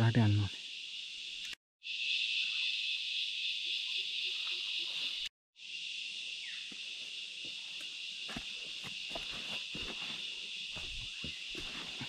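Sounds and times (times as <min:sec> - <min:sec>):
chorus of forest insects: 0:00.0 - 0:12.0.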